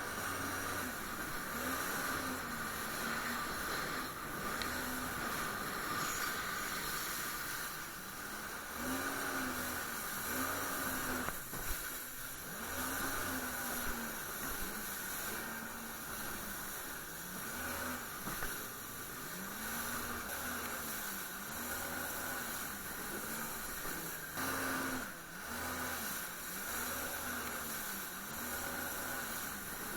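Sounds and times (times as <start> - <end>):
jet ski engine running: 0.0 - 29.9
water spray and wind rushing: 0.0 - 29.9.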